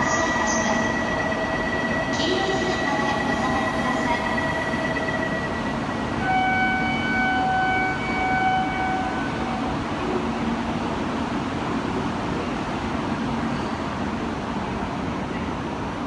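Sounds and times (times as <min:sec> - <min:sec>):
train rushing noise: 0:00.0 - 0:16.0.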